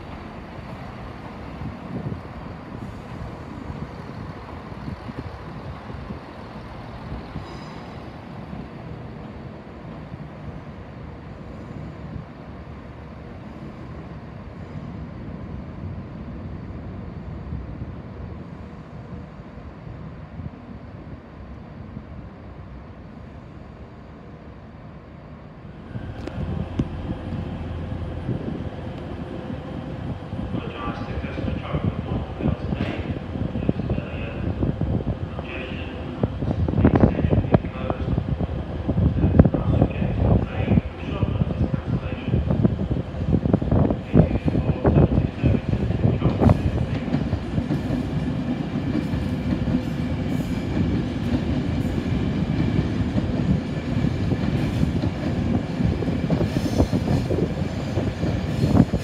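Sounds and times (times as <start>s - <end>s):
low rumble of trains: 0.0s - 59.0s.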